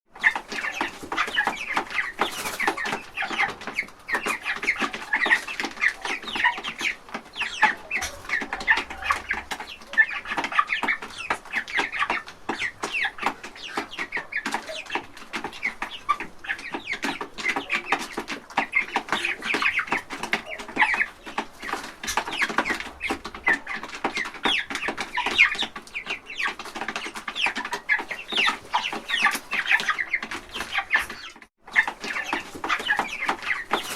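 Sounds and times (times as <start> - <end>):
chickens clucking and cheeping: 0.1 - 33.9.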